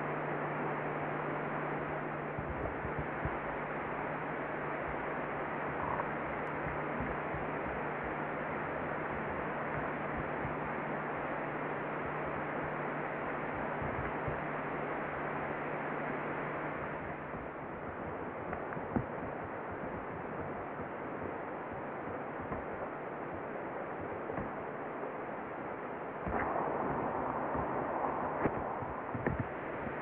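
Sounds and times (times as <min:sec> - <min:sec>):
low hum: 0:00.0 - 0:30.0
outdoor ambience hiss: 0:00.0 - 0:30.0.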